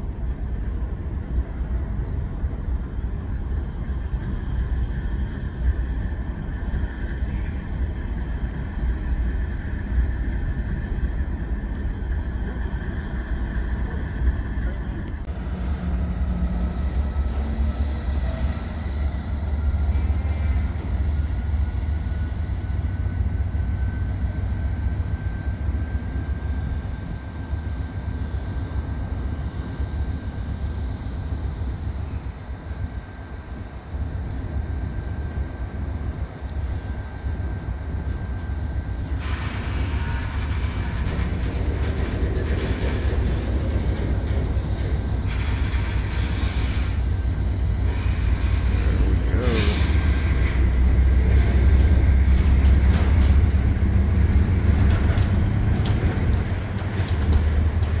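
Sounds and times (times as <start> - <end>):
thin steady whine: 0.0 - 57.3
freight train rumble: 0.0 - 58.0.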